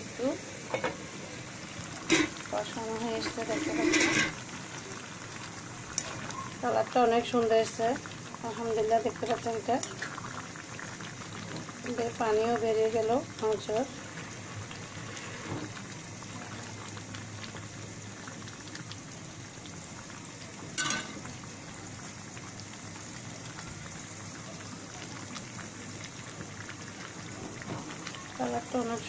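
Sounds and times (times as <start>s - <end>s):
curry bubbling in a pan: 0.0s - 29.0s.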